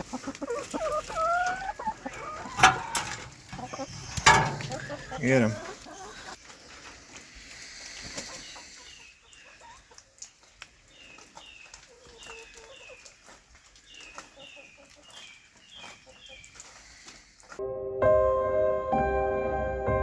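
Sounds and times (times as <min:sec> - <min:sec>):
chickens peeping: 0:00.0 - 0:17.6.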